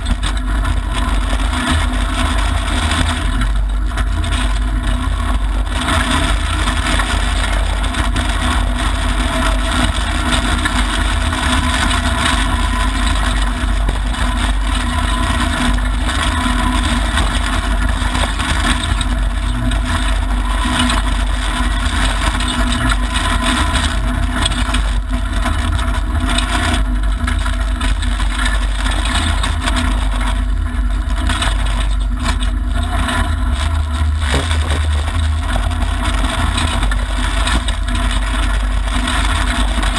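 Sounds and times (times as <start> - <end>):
rally car engine under load: 0.0 - 39.9
tyres rumbling on gravel: 0.0 - 39.9.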